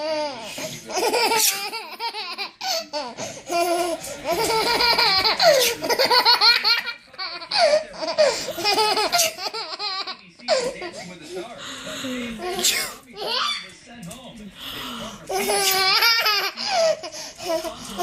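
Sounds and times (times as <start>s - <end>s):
baby giggling: 0.0s - 11.4s, 13.2s - 13.6s, 15.3s - 18.0s.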